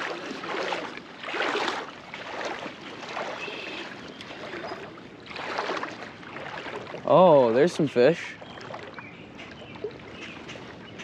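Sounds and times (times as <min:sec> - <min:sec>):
river water sloshing and splashing: 0:00.0 - 0:11.0.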